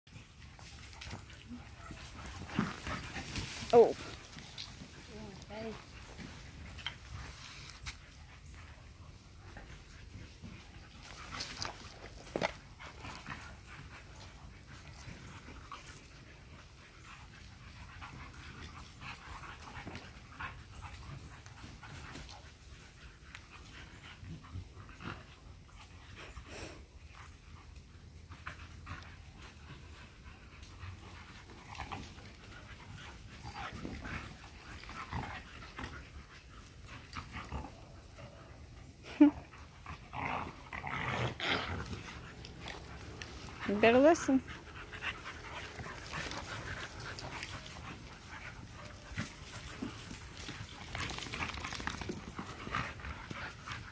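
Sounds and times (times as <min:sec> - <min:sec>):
dogs play-fighting: 0:00.1 - 0:53.9.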